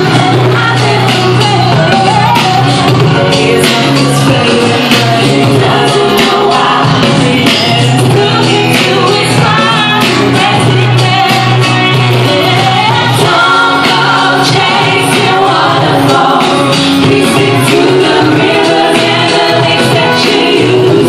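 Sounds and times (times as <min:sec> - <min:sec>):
female vocal trio singing: 0:00.0 - 0:21.0
loud amplified backing music: 0:00.0 - 0:21.0.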